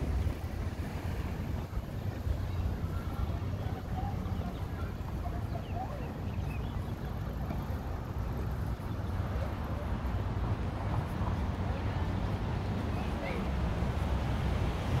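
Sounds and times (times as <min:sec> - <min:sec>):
low rumble of wind or traffic: 0:00.0 - 0:15.0.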